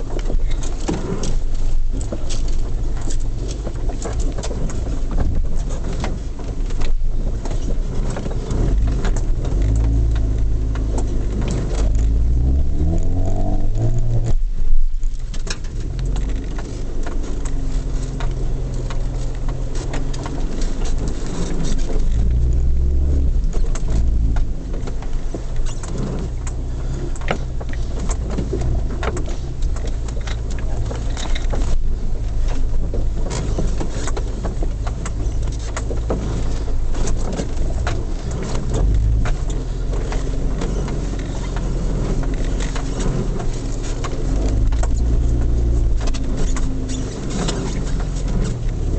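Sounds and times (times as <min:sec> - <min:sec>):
car engine running under load: 0:00.0 - 0:48.9.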